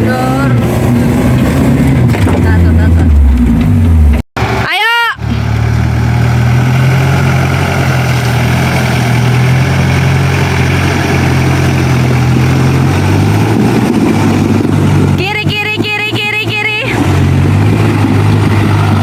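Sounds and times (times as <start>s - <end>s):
engine running at low revs: 0.0s - 4.6s, 5.2s - 19.0s.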